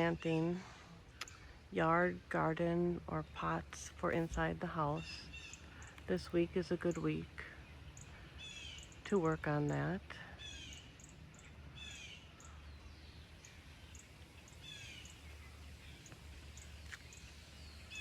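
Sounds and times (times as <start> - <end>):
low steady hum: 0.0 - 18.0
small birds chirping: 0.0 - 18.0.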